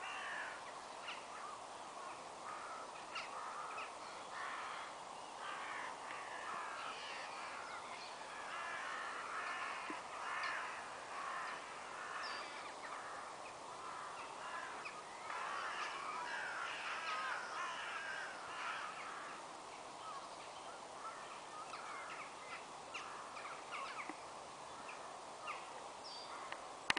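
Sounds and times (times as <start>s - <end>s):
crows cawing: 0.0s - 1.6s, 2.4s - 19.4s, 21.0s - 24.2s, 26.3s - 26.6s.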